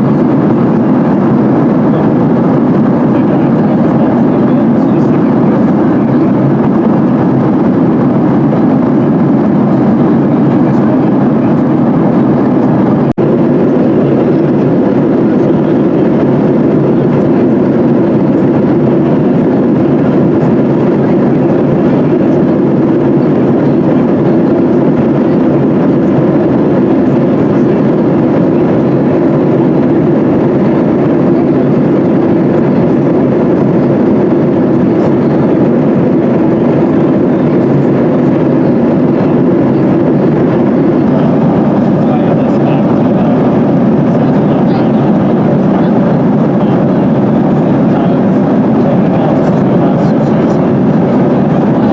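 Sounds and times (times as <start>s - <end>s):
airflow over fuselage: 0.0s - 51.9s
airplane cabin engine roar: 0.0s - 51.9s.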